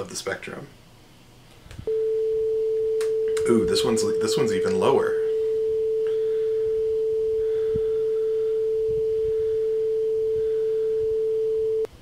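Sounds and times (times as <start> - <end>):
steady electronic sine tone: 1.8 - 11.9.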